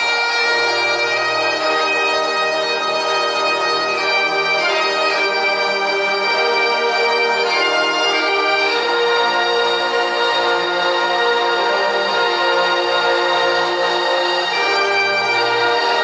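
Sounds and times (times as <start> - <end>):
bagpipes playing slow melody: 0.0 - 16.0.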